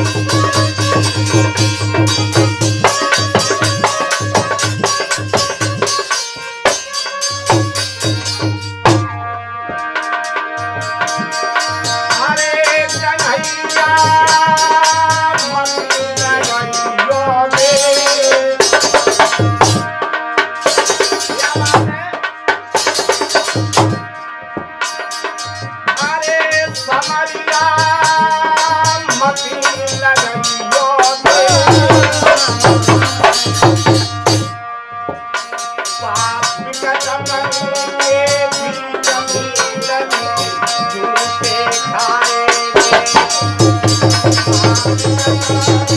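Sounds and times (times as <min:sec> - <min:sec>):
dholak drum strokes: 0:00.0 - 0:45.9
harmonium melody: 0:00.0 - 0:45.9
jingling percussion: 0:00.0 - 0:45.9.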